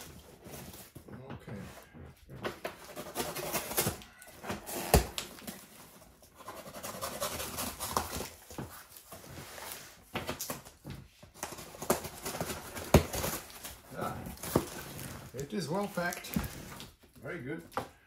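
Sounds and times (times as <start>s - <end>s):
cardboard scraping and tearing: 1.8s - 17.0s.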